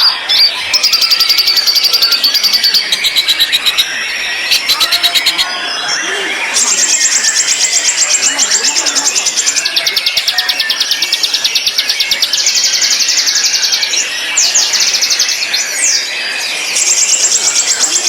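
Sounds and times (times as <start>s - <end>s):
bird singing rapid trills: 0.0s - 18.0s.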